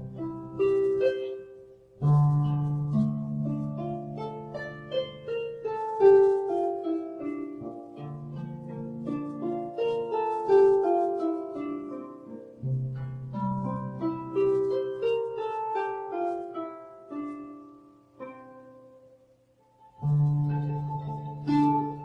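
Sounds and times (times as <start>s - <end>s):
solo harp arpeggios: 0.0s - 22.0s.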